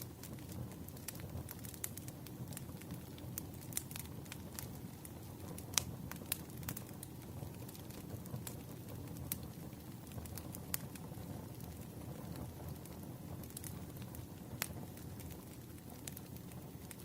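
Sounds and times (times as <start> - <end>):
firewood crackling and popping: 0.0 - 17.0
low rumble of fire: 0.0 - 17.0.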